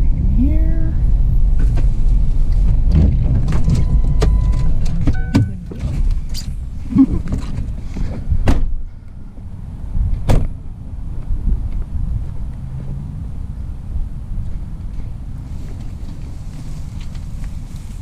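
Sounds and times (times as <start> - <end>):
van road rumble: 0.0 - 18.0.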